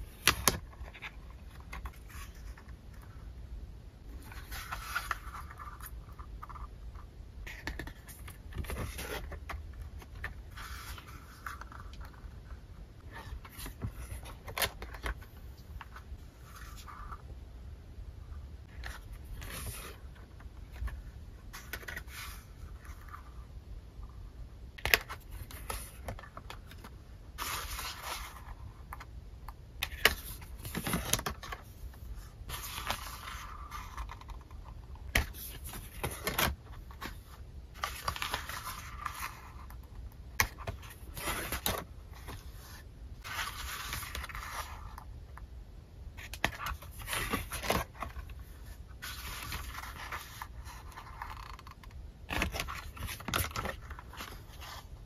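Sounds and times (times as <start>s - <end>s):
paper pages rustling: 4.1s - 6.7s, 7.4s - 17.2s, 18.6s - 23.4s, 24.8s - 29.1s, 29.8s - 39.8s, 40.4s - 45.1s, 46.2s - 55.0s.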